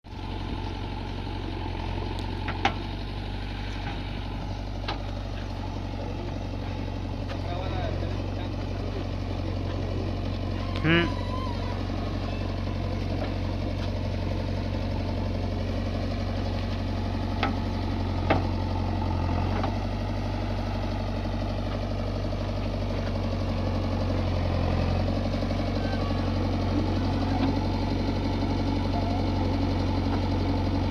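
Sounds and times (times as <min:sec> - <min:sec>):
heavy diesel engine running: 0:00.0 - 0:30.9.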